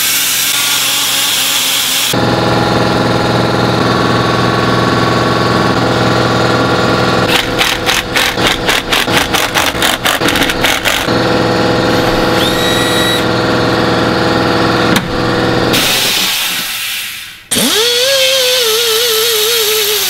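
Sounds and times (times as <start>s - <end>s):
die grinder running: 0.0s - 16.6s, 17.5s - 20.0s.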